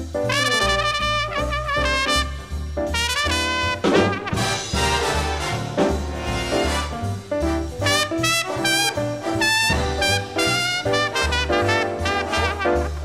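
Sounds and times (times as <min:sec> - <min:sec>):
jazz orchestra playing: 0:00.0 - 0:13.0
brass melody with vibrato: 0:00.2 - 0:13.0.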